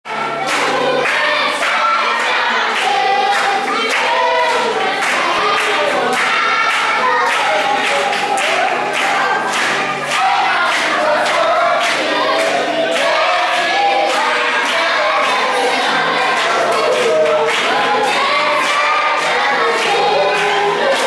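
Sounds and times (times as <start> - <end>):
children's choir singing: 0.1 - 21.0.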